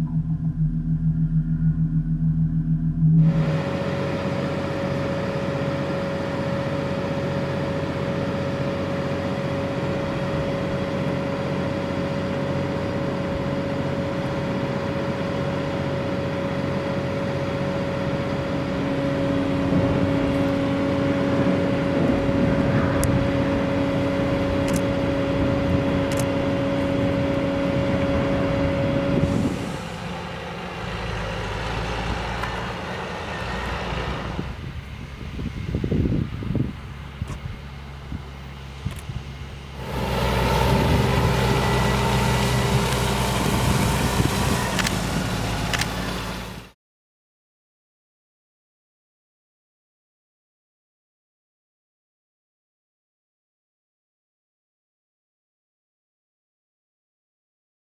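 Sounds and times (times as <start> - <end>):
low hum: 0.0 - 46.8
machine whine: 0.0 - 46.8.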